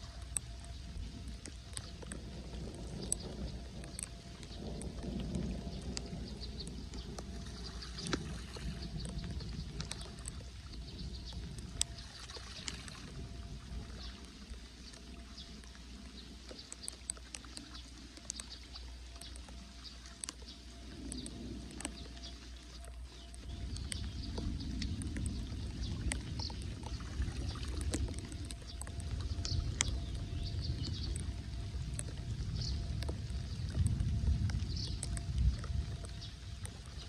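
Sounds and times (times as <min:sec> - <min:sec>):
small clicks: 0:00.0 - 0:37.0
steady low rumble: 0:00.0 - 0:37.0.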